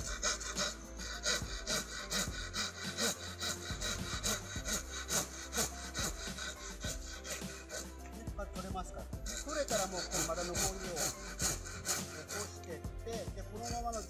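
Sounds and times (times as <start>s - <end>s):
hand saw cutting wood: 0.0s - 8.0s, 9.3s - 12.8s, 13.6s - 14.0s.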